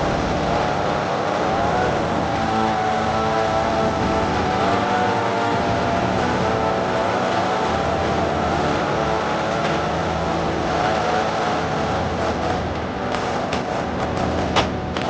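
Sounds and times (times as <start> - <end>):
chainsaw engine at high revs: 0.0 - 15.0.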